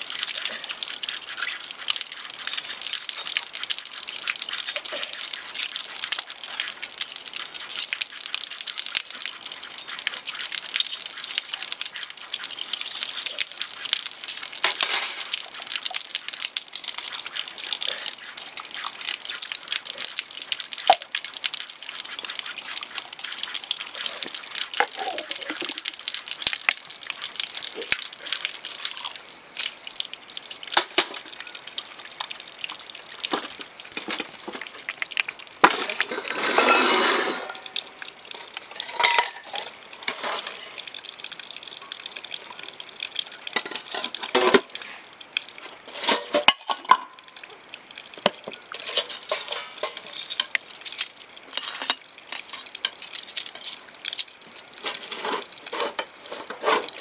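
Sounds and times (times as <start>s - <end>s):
rush of water: 0.0s - 57.0s
steady hiss: 0.0s - 57.0s.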